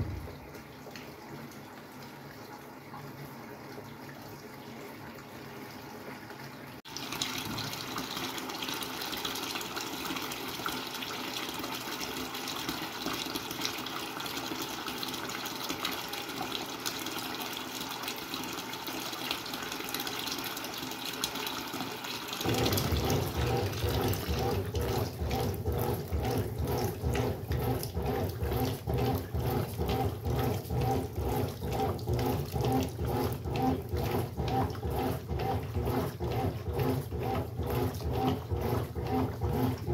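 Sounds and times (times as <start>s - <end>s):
washing machine motor pulsing: 0.0s - 2.4s, 6.8s - 39.9s
washing machine filling with water: 0.0s - 39.9s.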